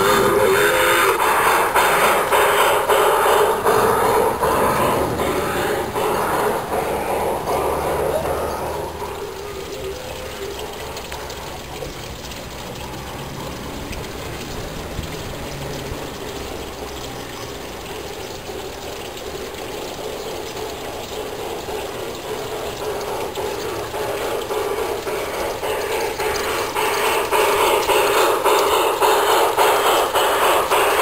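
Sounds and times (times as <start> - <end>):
faint ticking: 0.0 - 31.0
model train running on track: 0.0 - 31.0.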